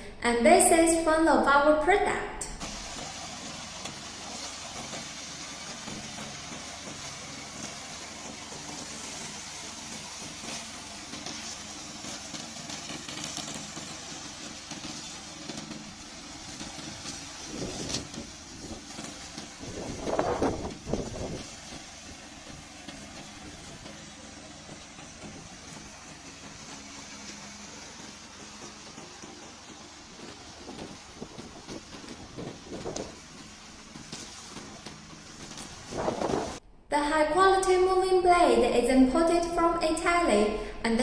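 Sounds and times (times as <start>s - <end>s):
lawn mower engine running: 2.6s - 36.6s.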